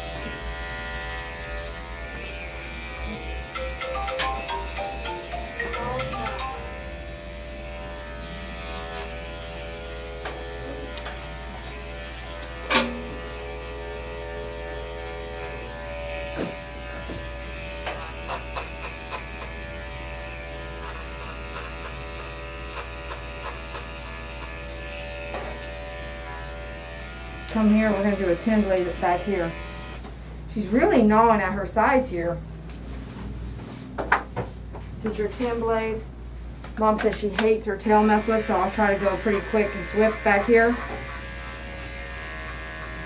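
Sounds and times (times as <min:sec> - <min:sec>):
electric clippers running: 0:00.0 - 0:30.0, 0:38.0 - 0:43.0.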